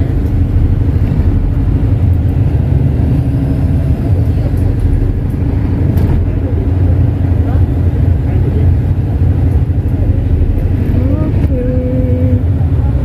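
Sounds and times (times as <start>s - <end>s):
ferry engine rumbling: 0.0s - 13.0s.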